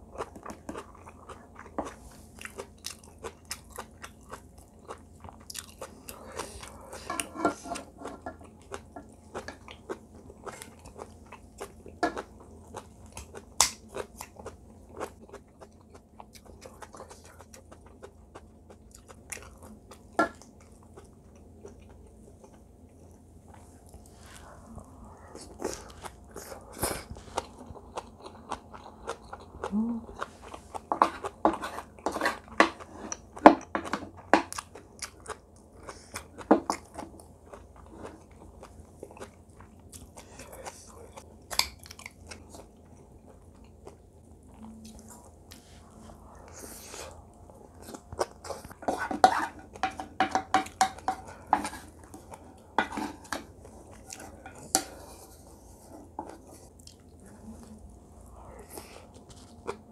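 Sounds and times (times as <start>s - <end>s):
chewing with wet crunches: 0.0s - 46.5s, 50.6s - 58.2s.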